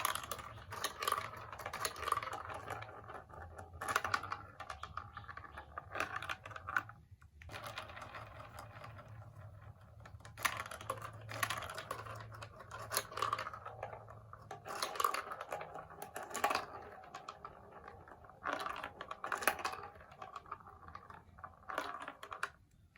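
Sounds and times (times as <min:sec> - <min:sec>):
marbles clattering through plastic run: 0:00.0 - 0:22.9.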